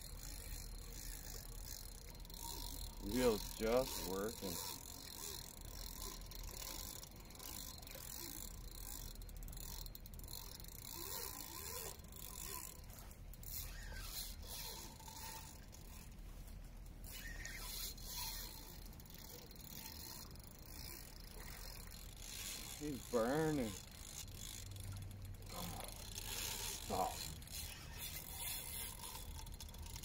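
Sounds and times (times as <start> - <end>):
fishing reel drag clicking: 0.0 - 16.2, 16.9 - 30.0.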